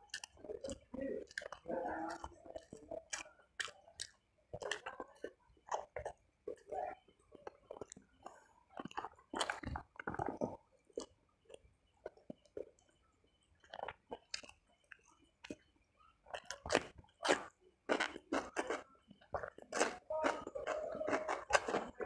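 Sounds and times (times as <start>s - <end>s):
chewing and biting food: 0.0s - 13.0s, 13.6s - 15.7s, 16.3s - 22.0s.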